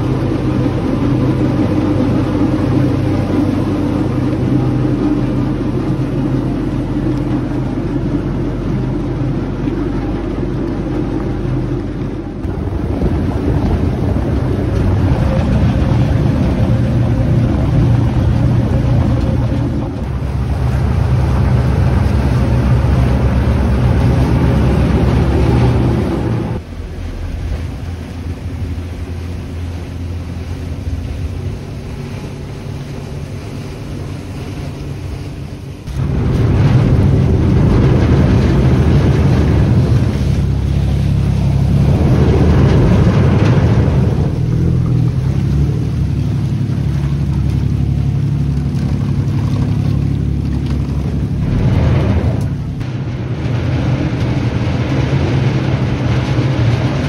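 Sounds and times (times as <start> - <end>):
diesel engine rumbling: 0.0 - 57.0
water rushing along hull: 0.0 - 57.0
wind buffeting microphone: 0.0 - 57.0.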